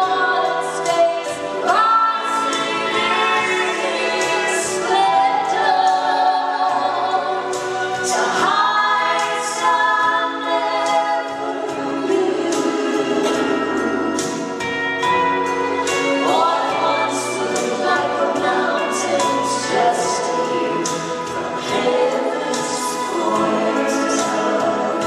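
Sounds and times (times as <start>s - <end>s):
vocal trio singing in harmony: 0.0s - 25.0s.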